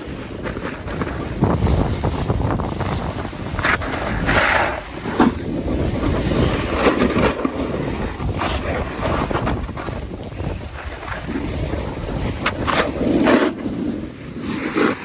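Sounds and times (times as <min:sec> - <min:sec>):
snowboard scraping over slush: 0:00.0 - 0:15.0
wind buffeting microphone: 0:00.0 - 0:15.0.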